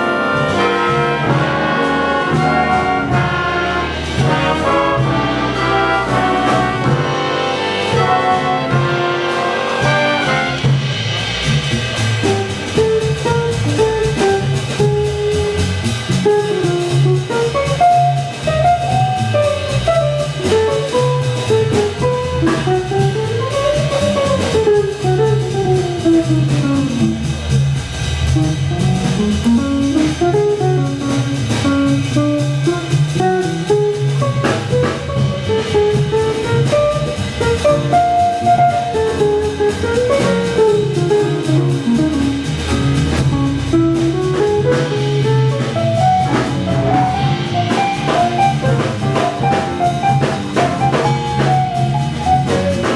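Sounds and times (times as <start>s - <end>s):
drums: 0.0s - 52.9s
fast jazz solo line: 0.0s - 52.9s
walking bass: 0.0s - 52.9s.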